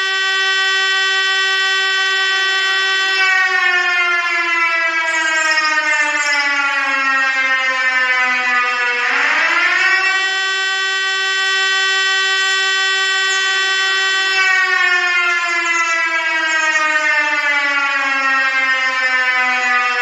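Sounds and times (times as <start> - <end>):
siren-like alarm tone: 0.0 - 20.0.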